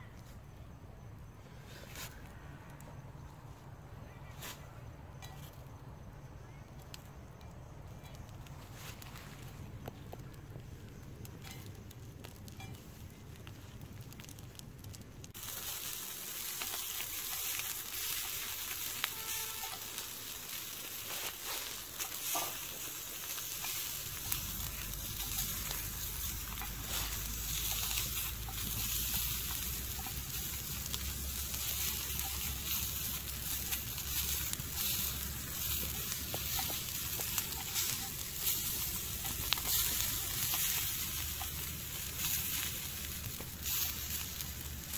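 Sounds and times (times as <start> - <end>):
crackles and pops: 0.0 - 44.9
prawns sizzling in a hot pan: 7.9 - 44.9.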